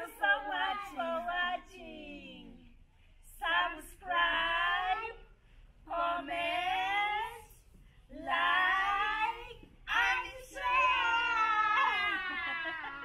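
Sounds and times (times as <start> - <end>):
women and children singing: 0.0 - 13.0.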